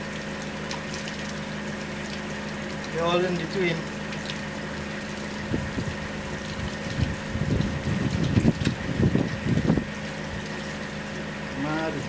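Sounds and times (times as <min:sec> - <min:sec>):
tap water running into sink: 0:00.0 - 0:10.9
steady hum: 0:00.0 - 0:12.0.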